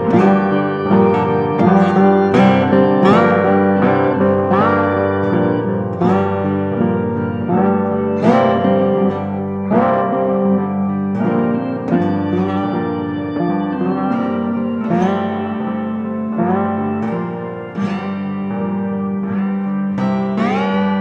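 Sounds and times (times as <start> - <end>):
held tones: 0.0 - 21.0
plucked guitar notes: 0.0 - 21.0.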